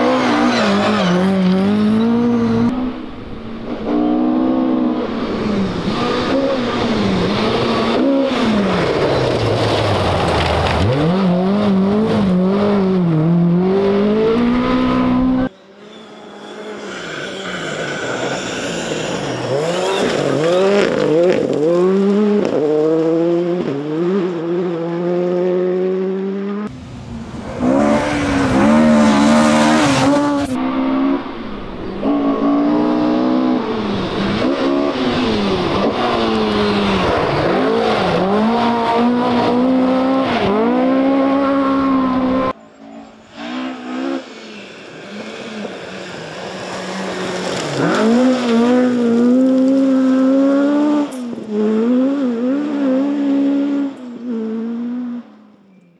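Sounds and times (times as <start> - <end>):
rally car engines revving: 0.0 - 55.6.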